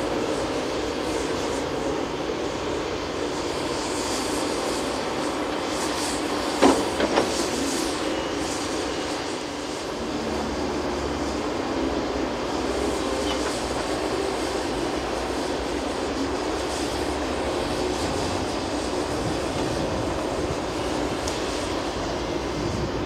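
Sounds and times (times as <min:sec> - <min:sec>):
excavator diesel engine and hydraulics: 0:00.0 - 0:23.0.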